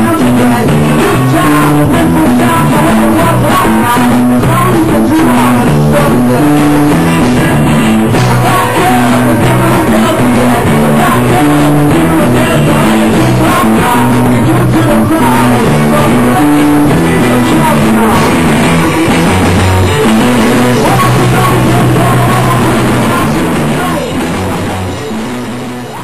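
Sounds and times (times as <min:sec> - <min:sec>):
bass guitar: 0:00.0 - 0:26.0
drum kit: 0:00.0 - 0:26.0
electric guitar: 0:00.0 - 0:26.0.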